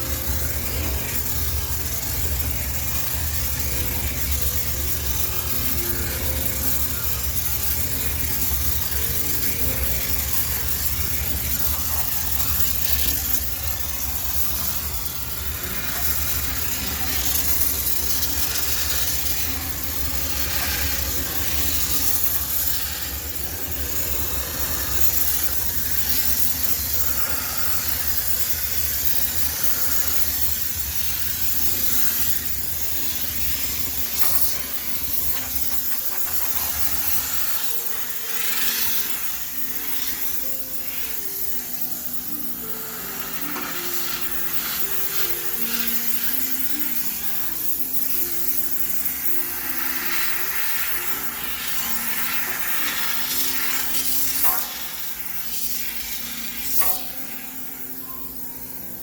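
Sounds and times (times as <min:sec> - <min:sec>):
steam cleaner hissing: 0:00.0 - 0:59.0.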